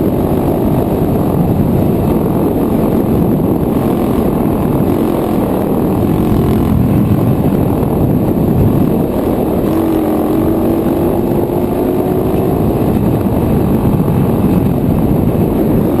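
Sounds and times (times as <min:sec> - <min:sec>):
dirt bike engine running hard: 0:00.0 - 0:16.0
wind rush on microphone: 0:00.0 - 0:16.0.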